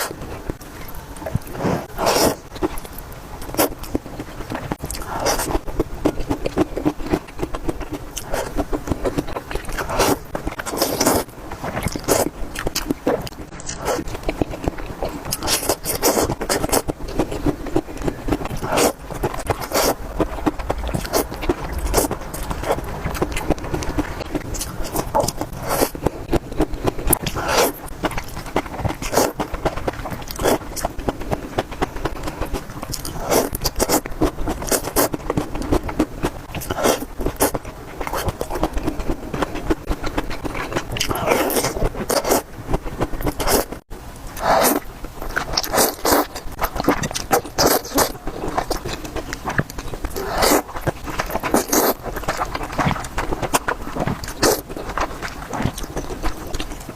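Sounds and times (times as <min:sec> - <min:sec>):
chewing and biting noodles: 0:00.0 - 0:43.8, 0:44.4 - 0:56.9.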